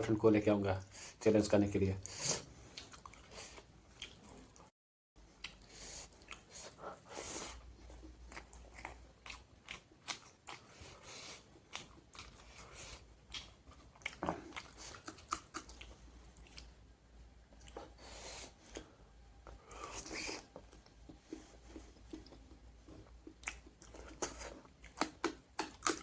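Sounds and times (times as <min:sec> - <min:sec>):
person chewing crunchy food: 0:02.1 - 0:16.8, 0:17.5 - 0:26.0.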